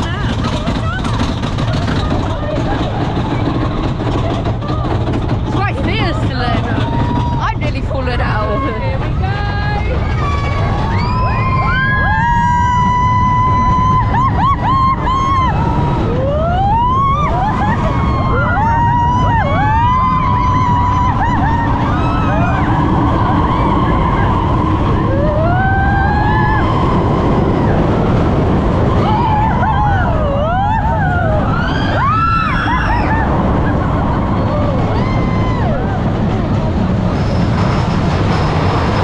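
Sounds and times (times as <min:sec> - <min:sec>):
riders whooping and screaming: 0:00.0 - 0:39.0
roller coaster train rumble: 0:00.0 - 0:39.0
rushing wind: 0:00.0 - 0:39.0.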